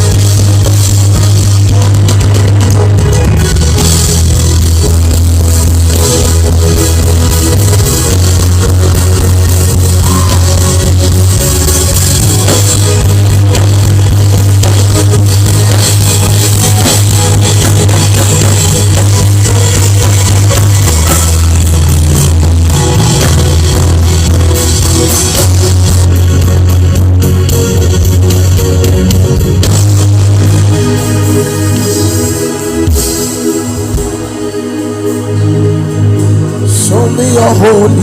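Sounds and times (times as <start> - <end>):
instrumental band music: 0.0 - 38.0.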